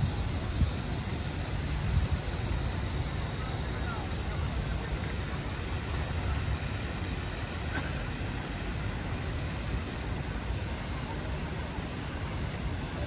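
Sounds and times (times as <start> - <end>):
hiss: 0.0 - 13.0
low city rumble: 0.0 - 13.0.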